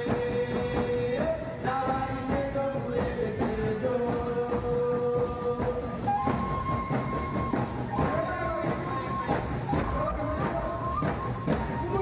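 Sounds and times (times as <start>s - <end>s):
steady percussion beat: 0.0s - 12.0s.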